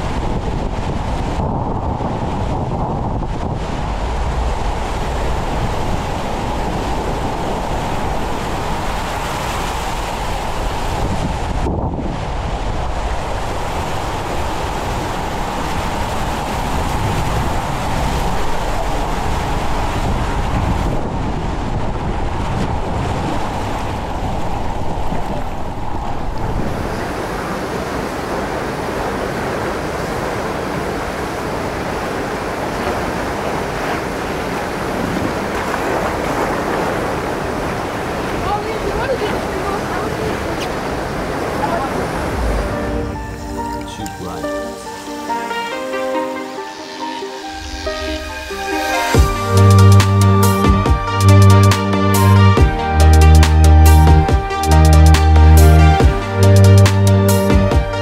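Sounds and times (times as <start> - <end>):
wind buffeting microphone: 0.0 - 44.0, 47.6 - 58.0
water rushing and splashing: 0.0 - 58.0.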